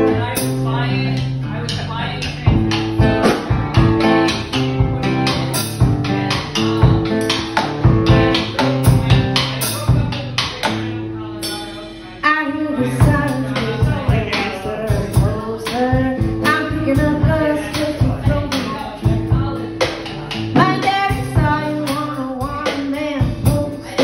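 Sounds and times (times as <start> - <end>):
drum kit beat: 0.0 - 12.0, 12.8 - 24.0
acoustic guitar: 0.0 - 24.0.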